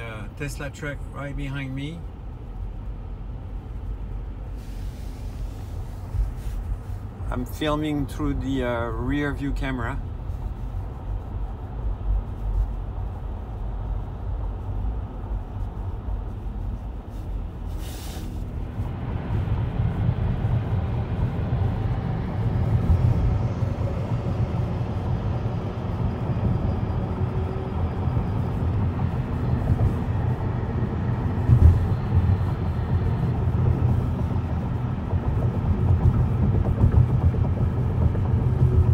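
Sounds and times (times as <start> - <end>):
road rumble inside car: 0.0 - 38.9.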